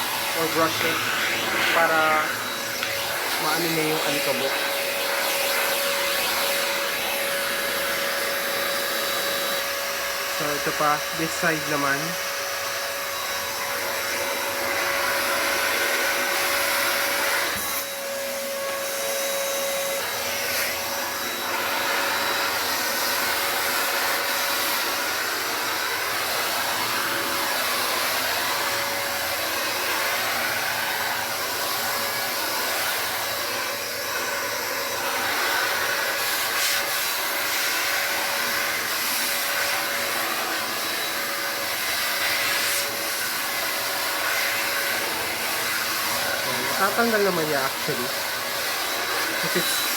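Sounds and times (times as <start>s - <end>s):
vacuum cleaner whining: 0.0s - 49.9s.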